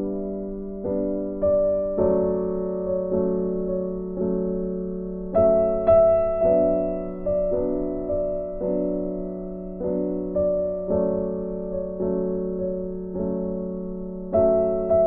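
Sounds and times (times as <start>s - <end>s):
keyboard playing slow chords: 0.0s - 15.0s.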